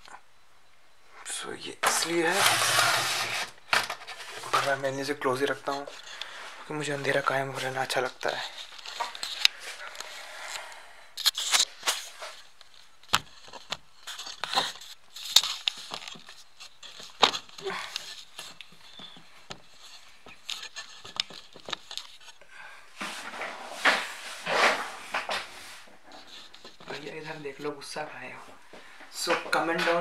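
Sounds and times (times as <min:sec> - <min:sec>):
soft rustling: 0:01.8 - 0:30.0.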